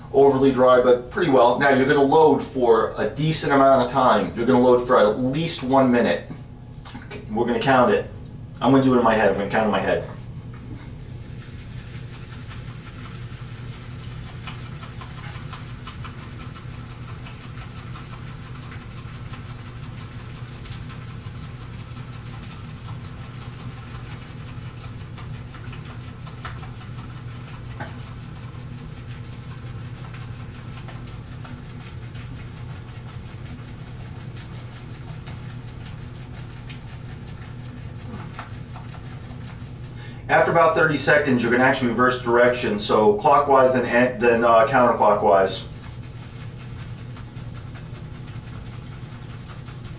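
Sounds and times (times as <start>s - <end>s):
shaving brush swishing on soap: 8.8s - 49.9s.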